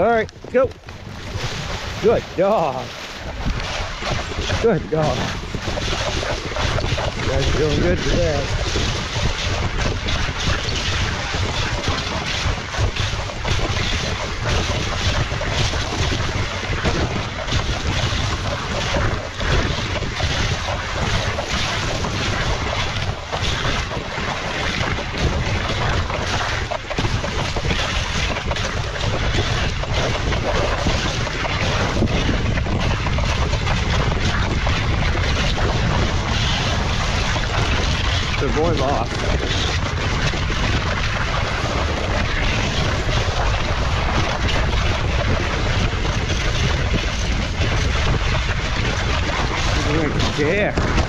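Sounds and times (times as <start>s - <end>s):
sled runners scraping over snow: 0.0s - 51.0s
wind rumbling on microphone: 0.0s - 51.0s.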